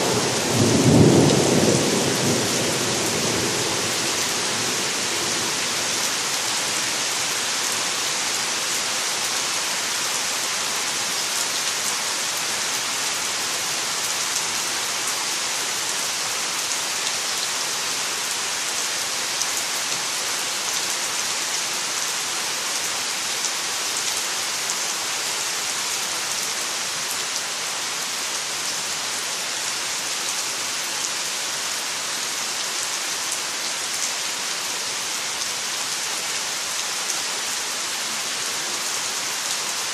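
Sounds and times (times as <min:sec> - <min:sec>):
rain on trees and leaves: 0:00.0 - 0:39.9.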